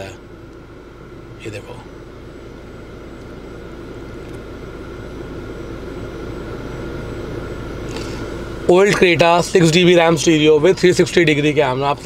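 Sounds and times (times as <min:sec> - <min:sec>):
mechanical drone with whine: 0:00.0 - 0:12.0.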